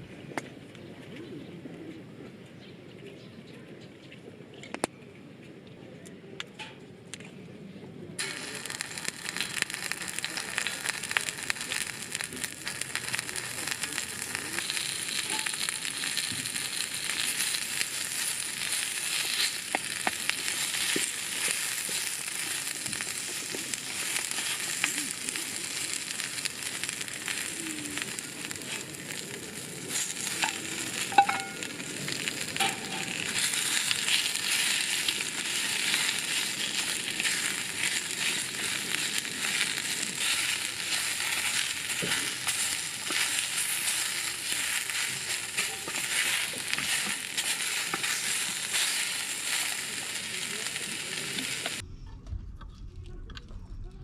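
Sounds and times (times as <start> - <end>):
food sizzling in a pan: 8.2 - 51.8.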